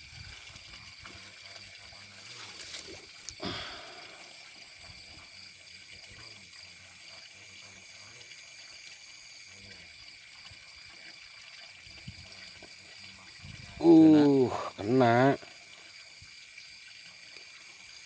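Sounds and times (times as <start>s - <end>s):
night insects chorus: 0.0s - 18.0s
rustling and water splashing: 0.0s - 18.0s.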